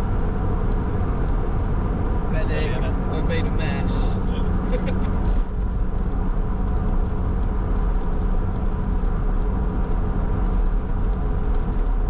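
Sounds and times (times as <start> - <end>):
car engine running: 0.0 - 12.0
road rumble inside car: 0.0 - 12.0.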